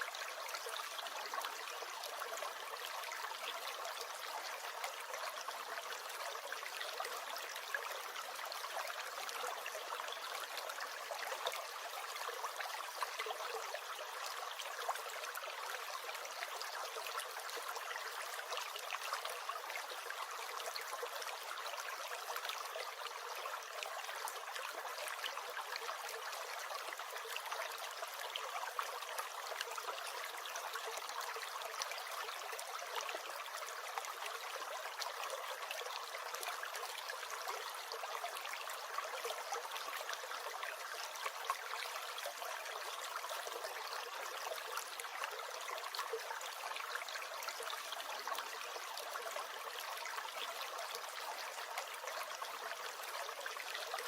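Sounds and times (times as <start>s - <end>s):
small stream gurgling: 0.0s - 54.0s.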